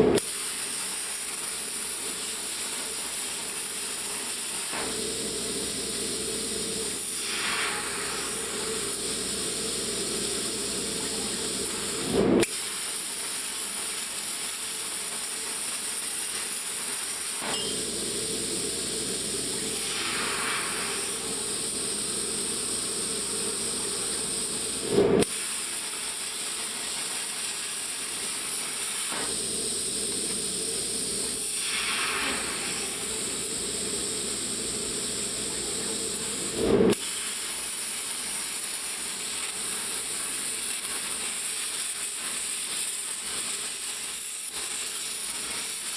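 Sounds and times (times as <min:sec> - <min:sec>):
plasma cutting torch hissing: 0:00.0 - 0:45.9.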